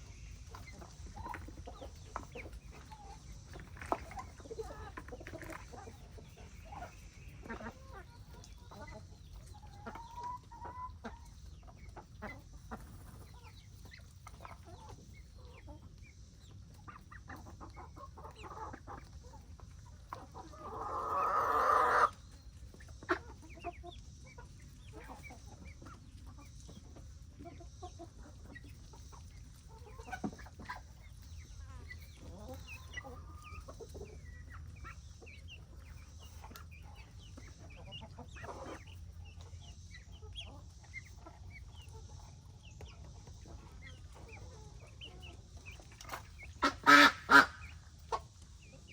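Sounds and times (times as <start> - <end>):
chickens clucking: 0.0 - 48.9
chickens pecking at feed: 0.0 - 48.9.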